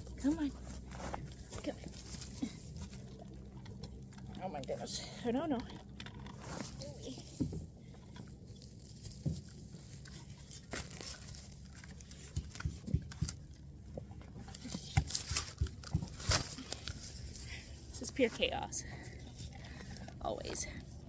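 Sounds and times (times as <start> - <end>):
goat chewing and crunching feed: 0.0 - 21.0.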